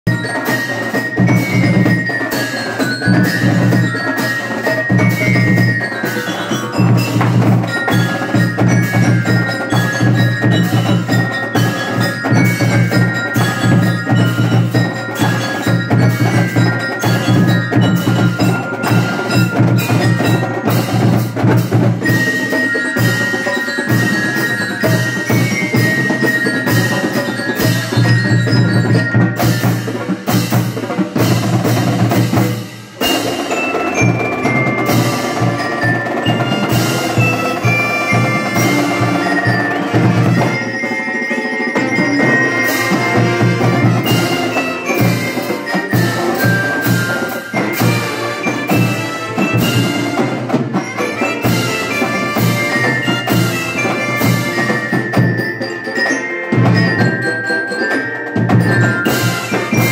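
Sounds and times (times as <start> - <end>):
glockenspiel melody: 0.0 - 59.9
marching band drums: 0.0 - 59.9.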